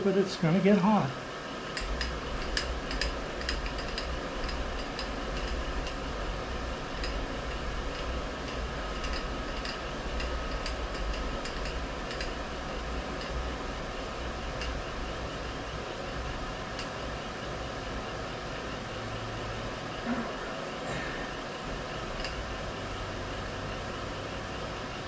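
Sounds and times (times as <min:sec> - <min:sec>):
machine low hum: 0:00.0 - 0:25.0.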